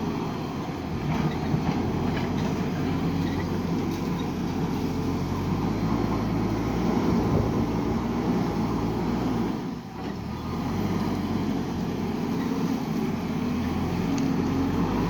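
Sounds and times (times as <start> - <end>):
diesel engine working under load: 0.0 - 15.0.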